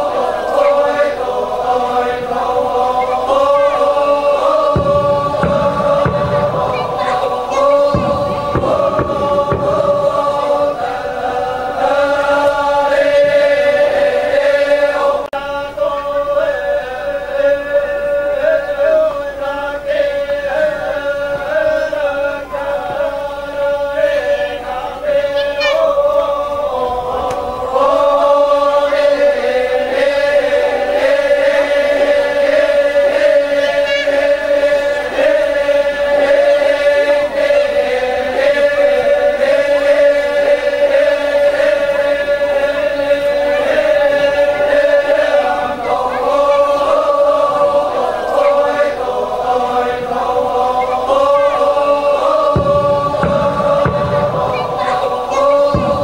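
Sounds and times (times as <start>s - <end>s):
group of voices chanting: 0.0s - 56.0s.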